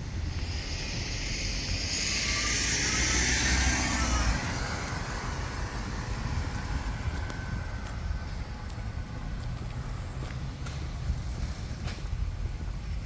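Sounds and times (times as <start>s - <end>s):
car passing: 0.0s - 13.0s
wind rumble on microphone: 0.0s - 13.0s.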